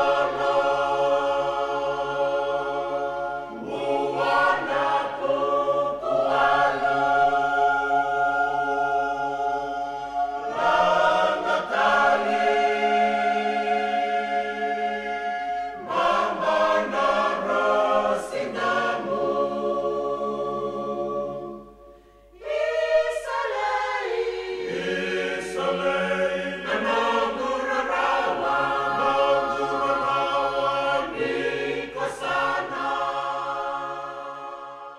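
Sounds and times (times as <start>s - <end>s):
choir singing sustained chords: 0.0s - 34.9s.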